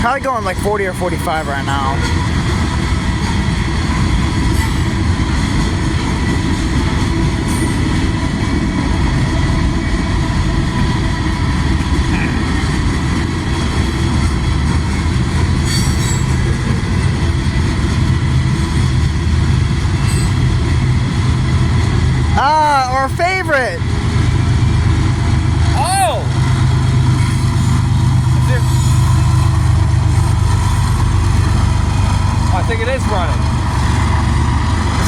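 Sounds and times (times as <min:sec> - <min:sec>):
rail cars rumbling over track: 0:00.0 - 0:35.0.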